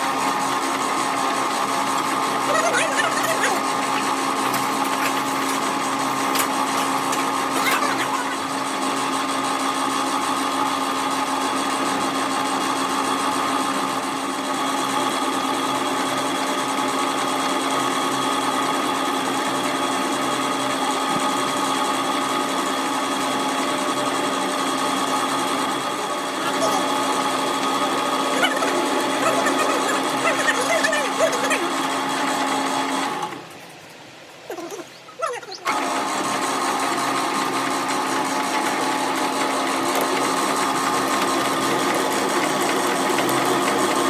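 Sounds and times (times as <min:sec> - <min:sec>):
electric motor running: 0:00.0 - 0:33.5, 0:34.5 - 0:44.0.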